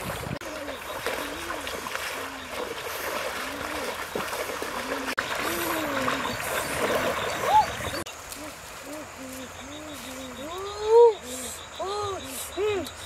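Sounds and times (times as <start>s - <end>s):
river water trickling and splashing: 0.0s - 11.7s.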